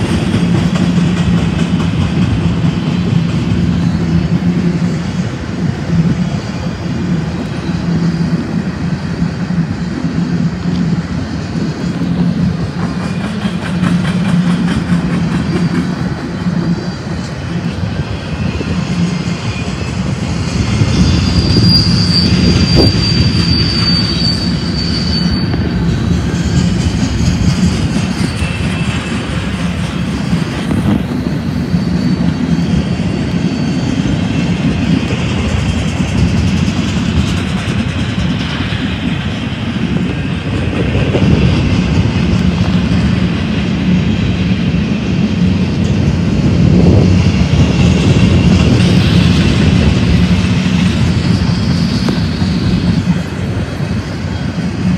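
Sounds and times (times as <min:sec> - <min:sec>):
train wheels rumbling on rail: 0:00.0 - 0:54.9
high wheel squeal: 0:06.1 - 0:54.9.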